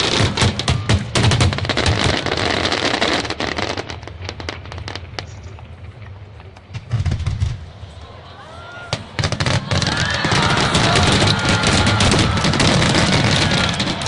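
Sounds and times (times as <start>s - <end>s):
fireworks bangs and crackling: 0.0s - 7.9s, 8.9s - 14.0s.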